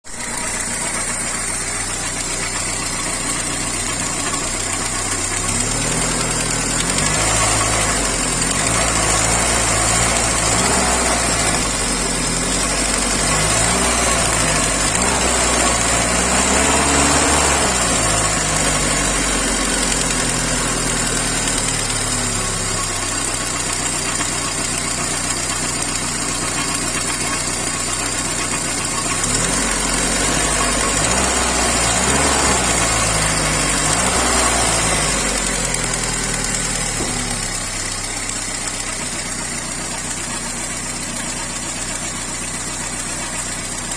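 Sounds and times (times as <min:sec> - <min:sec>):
car engine idling and revving: 0:00.0 - 0:43.9
engine knocking: 0:00.0 - 0:43.9.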